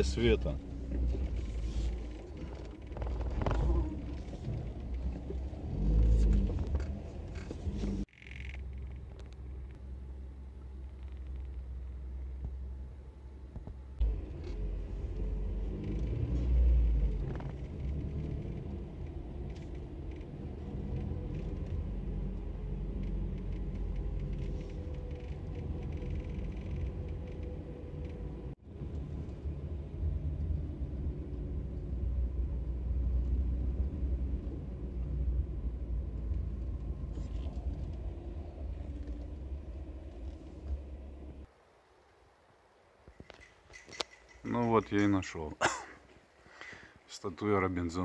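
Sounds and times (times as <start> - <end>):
car cabin engine and road rumble: 0.0 - 41.6.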